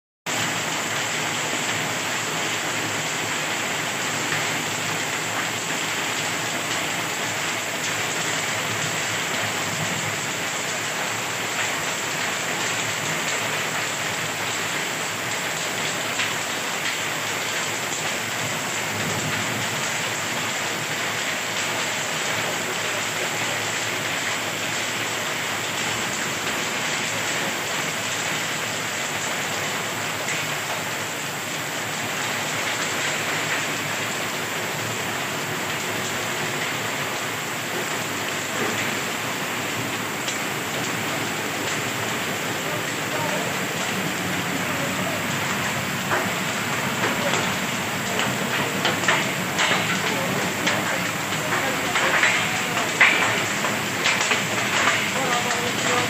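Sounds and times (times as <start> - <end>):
heavy rain pouring: 0.3 - 56.0.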